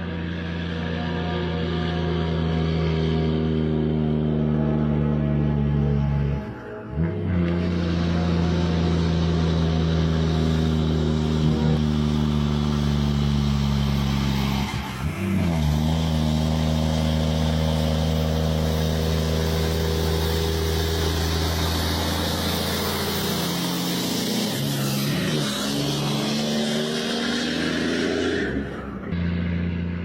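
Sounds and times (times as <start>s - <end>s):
truck diesel engine running: 0.0s - 26.4s.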